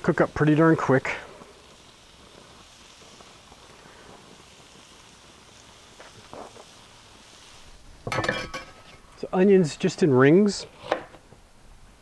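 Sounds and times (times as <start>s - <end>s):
bacon sizzling: 0.0s - 11.4s.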